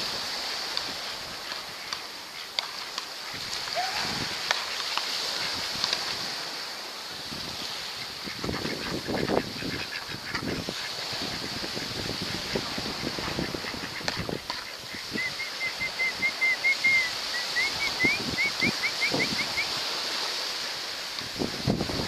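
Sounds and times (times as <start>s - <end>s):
steady hiss: 0.0s - 22.0s
wind buffeting microphone: 3.3s - 20.4s, 21.1s - 22.0s.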